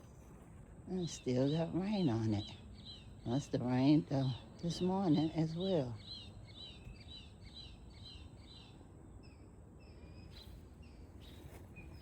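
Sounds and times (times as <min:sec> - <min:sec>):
faint songbirds singing: 0:00.0 - 0:12.0
low outdoor background rumble: 0:00.0 - 0:12.0.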